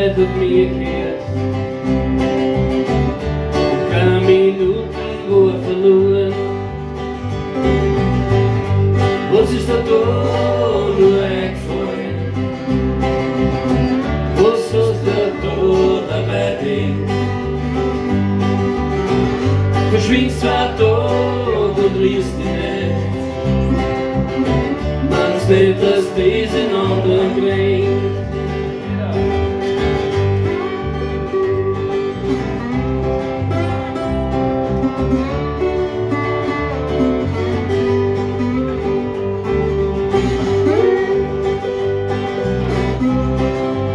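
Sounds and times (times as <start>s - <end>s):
acoustic guitar strumming: 0.0s - 43.9s
bass guitar: 0.0s - 43.9s
resonator guitar: 0.0s - 43.9s.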